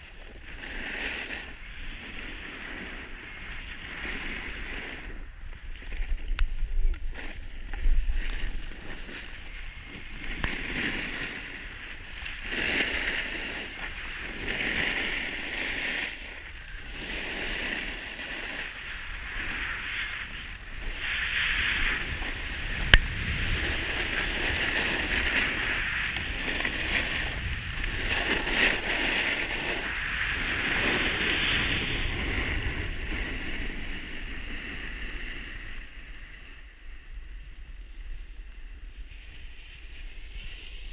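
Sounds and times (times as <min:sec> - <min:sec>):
skis carving over snow: 0:00.0 - 0:40.9.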